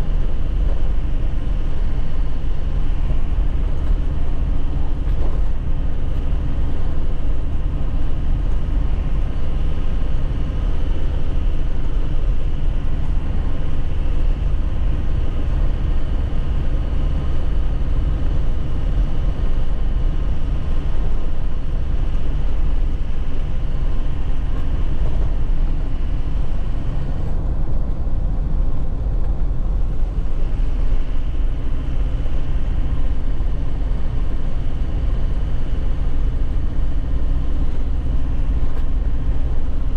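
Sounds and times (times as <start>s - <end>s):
diesel engine rumble: 0.0s - 39.9s
road noise: 0.0s - 39.9s.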